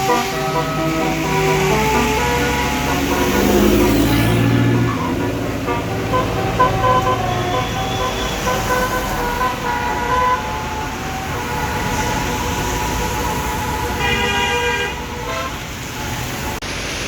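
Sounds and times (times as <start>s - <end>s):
bus air horn playing a melody: 0.0s - 16.5s
traffic noise: 0.0s - 17.0s.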